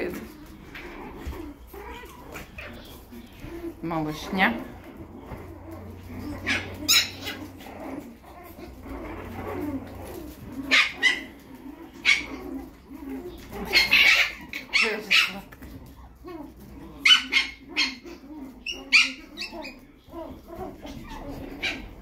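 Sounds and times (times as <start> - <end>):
puppies whining: 0.0 - 22.0
puppies yipping and squealing: 0.0 - 22.0.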